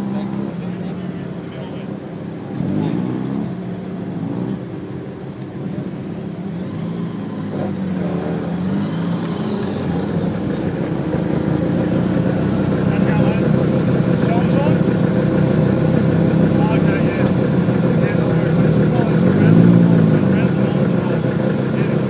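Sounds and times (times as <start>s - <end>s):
car engines rolling past: 0.0s - 22.0s.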